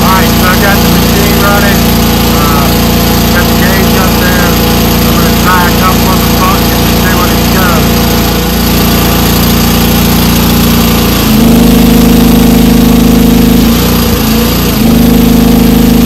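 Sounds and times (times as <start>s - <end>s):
excavator engine running under load: 0.0s - 16.0s.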